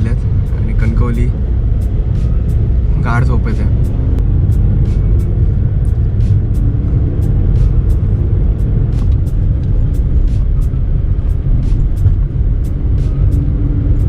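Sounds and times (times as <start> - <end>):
air rushing past microphone: 0.0 - 14.0
motorcycle engine rumbling: 0.0 - 14.0.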